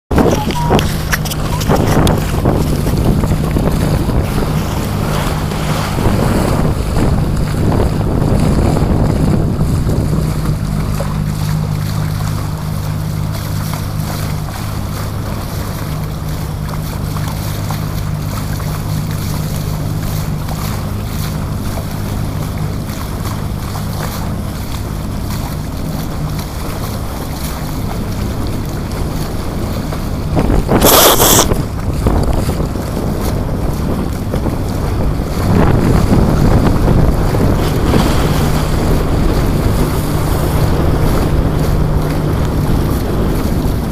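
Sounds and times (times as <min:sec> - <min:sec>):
hull rushing through water: 0:00.1 - 0:43.9
loud water splash: 0:00.1 - 0:43.9
wind buffeting microphone: 0:00.1 - 0:43.9.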